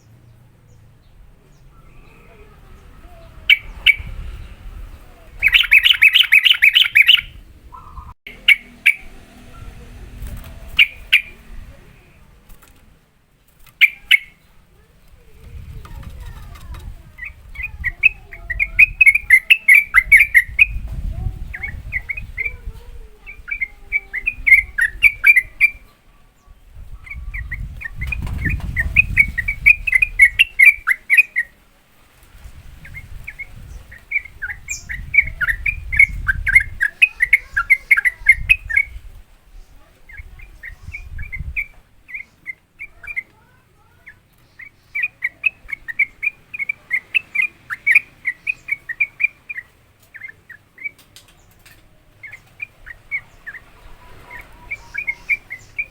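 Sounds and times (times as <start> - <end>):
bird rapid chattering song: 0.0 - 12.8, 13.5 - 55.9.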